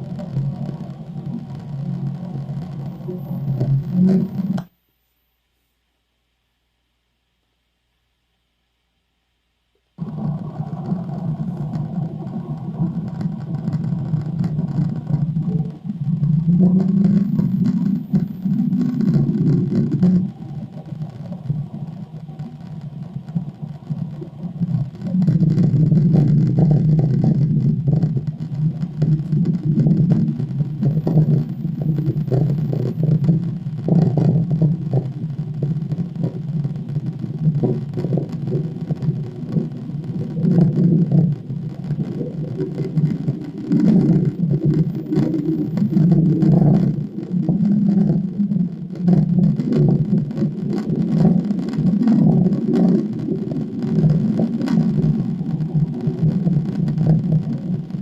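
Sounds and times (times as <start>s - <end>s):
low continuous rumble: 0.0s - 58.0s.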